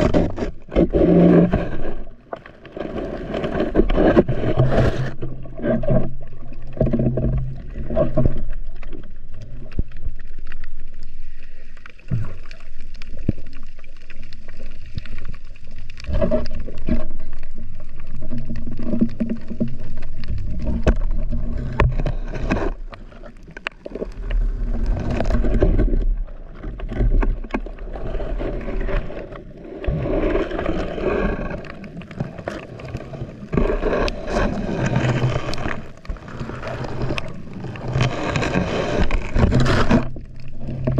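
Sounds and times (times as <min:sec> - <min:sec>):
muffled underwater water movement: 0:00.0 - 0:40.9.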